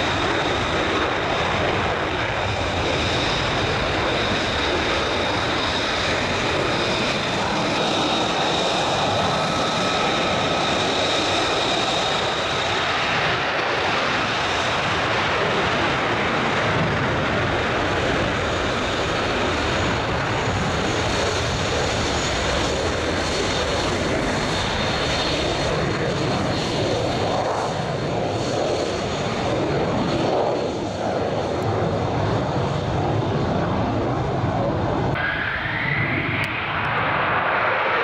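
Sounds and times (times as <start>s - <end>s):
fighter jet engines roaring: 0.0s - 38.0s.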